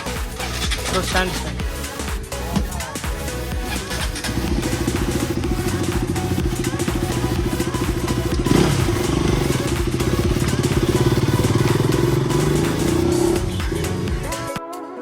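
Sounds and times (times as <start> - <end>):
motorcycle engine revving: 0.2 - 14.5.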